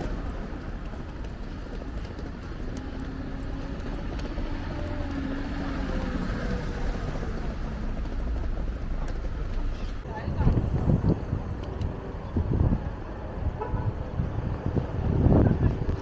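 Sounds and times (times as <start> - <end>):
passing vehicle engine hum: 0.0 - 16.0
traffic rumble: 0.0 - 16.0.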